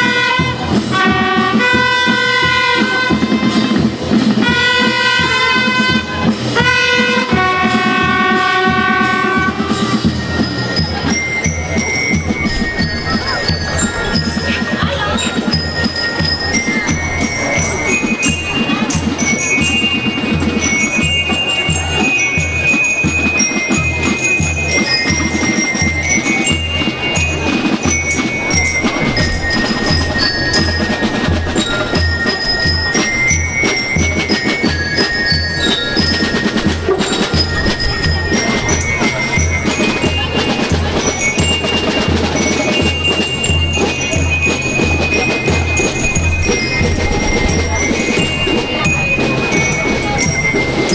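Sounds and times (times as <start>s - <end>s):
bell lyres melody: 0.0s - 50.9s
snare drum and percussion: 0.0s - 50.9s.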